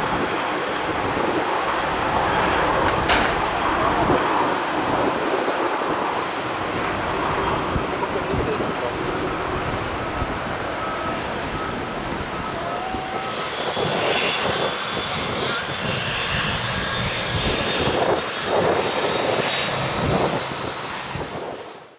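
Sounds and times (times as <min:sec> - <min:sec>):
jet engines roaring: 0:00.0 - 0:21.9.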